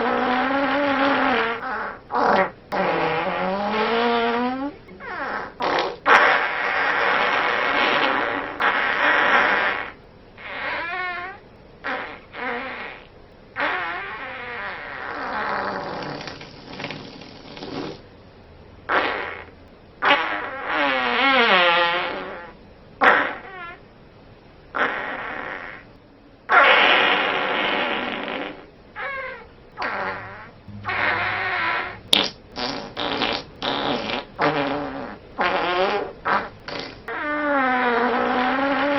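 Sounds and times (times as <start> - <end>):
farts: 0.0 - 18.1, 18.9 - 23.8, 24.7 - 38.9.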